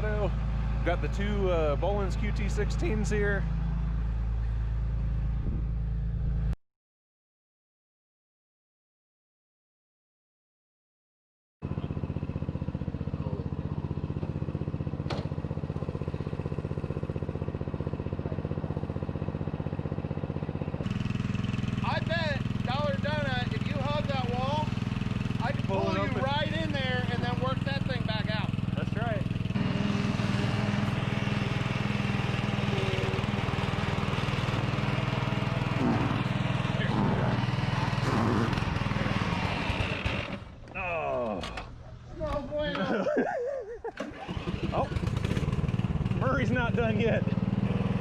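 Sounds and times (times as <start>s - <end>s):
small tractor engine running: 0.0s - 6.5s, 11.6s - 43.0s, 43.9s - 48.0s.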